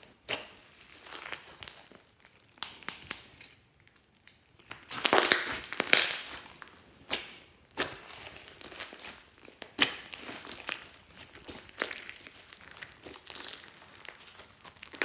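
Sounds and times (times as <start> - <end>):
slime crackling and popping: 0.0 - 15.0.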